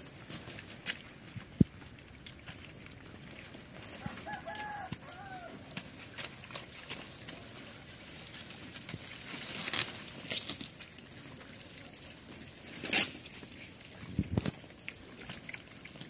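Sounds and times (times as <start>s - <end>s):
pigs munching leaves: 0.0s - 16.0s
sharp crackles: 0.0s - 16.0s.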